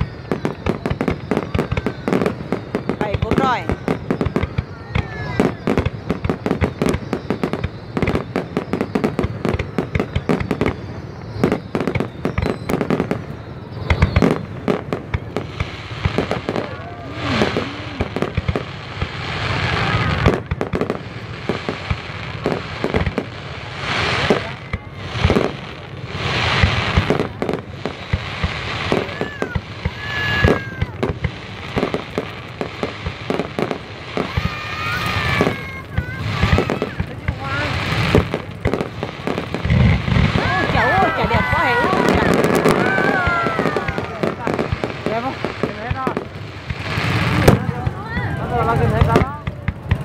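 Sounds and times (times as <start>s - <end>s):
fireworks bangs: 0.0s - 50.0s
fireworks hissing bursts: 0.0s - 50.0s.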